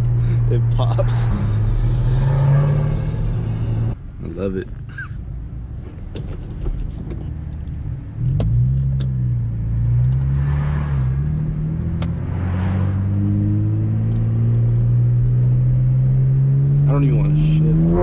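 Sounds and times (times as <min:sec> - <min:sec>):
car engine revving under load: 0:00.0 - 0:04.0, 0:05.8 - 0:18.0.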